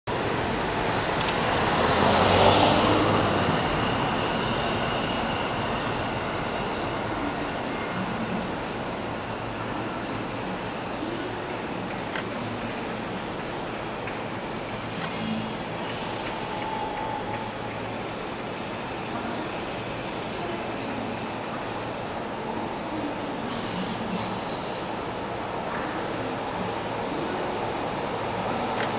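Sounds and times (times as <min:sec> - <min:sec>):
rail rumble: 0:00.1 - 0:28.9
train wheel squeal: 0:01.4 - 0:28.9.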